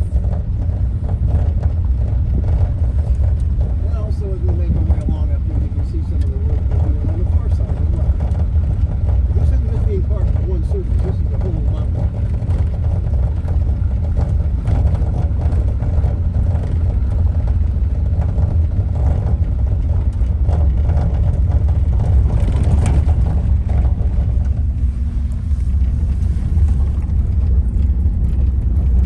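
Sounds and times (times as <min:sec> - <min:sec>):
vehicle driving: 0:00.0 - 0:29.0
wind buffeting microphone: 0:00.0 - 0:29.0.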